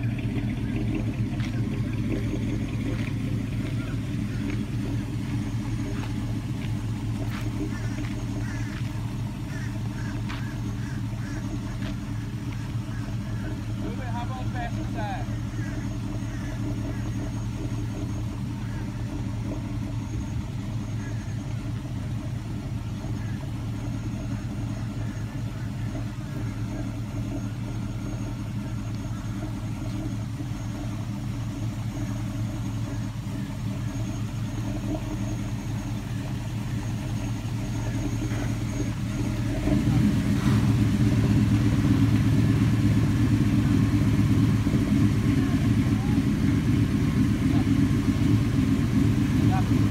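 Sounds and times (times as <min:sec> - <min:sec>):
pickup engine running: 0:00.0 - 0:49.9.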